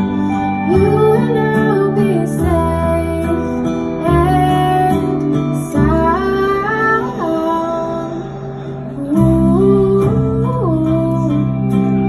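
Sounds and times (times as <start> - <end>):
acoustic guitar: 0.0 - 12.0
woman singing a slow ballad: 0.0 - 12.0.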